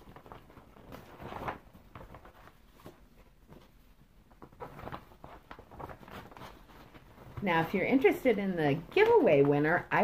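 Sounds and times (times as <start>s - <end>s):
vinyl bag rustling and crinkling: 0.0s - 10.0s.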